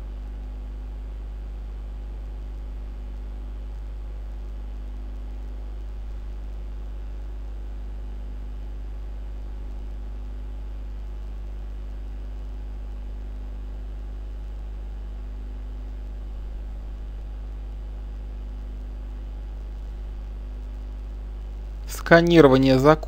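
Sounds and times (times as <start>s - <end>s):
low electrical hum with hiss: 0.0s - 23.0s.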